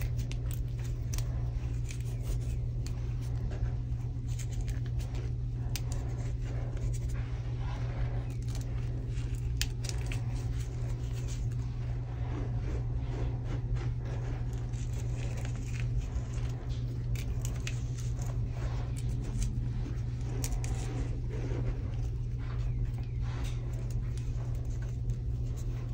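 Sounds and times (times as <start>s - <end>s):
chalk crunching and crackling: 0.0s - 25.9s
steady low hum: 0.0s - 25.9s.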